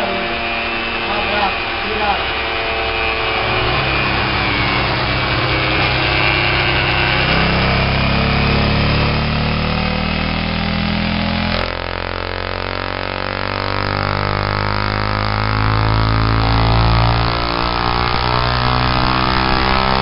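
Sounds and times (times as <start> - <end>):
car engine low drone: 0.0 - 20.0.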